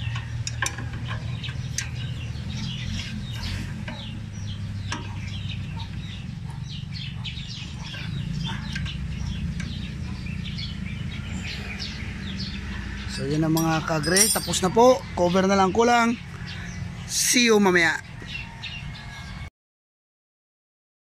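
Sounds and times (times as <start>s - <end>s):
small birds chirping: 0.4s - 19.4s.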